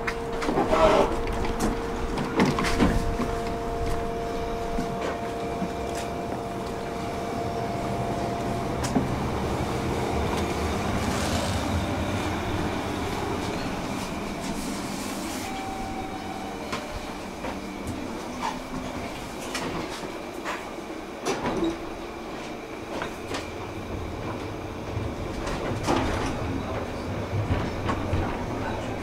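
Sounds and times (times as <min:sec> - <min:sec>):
tram electrical whine: 0:00.0 - 0:29.0
tram rumbling on rails: 0:00.0 - 0:29.0.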